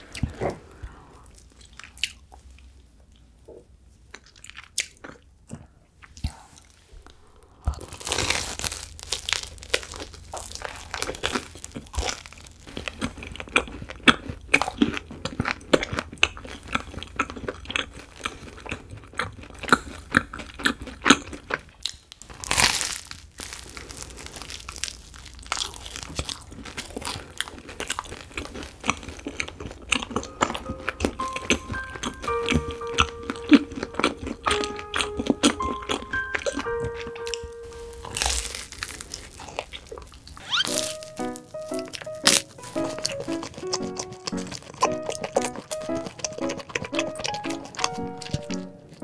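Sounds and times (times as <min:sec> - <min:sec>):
crunching and chewing: 0:00.0 - 0:49.0.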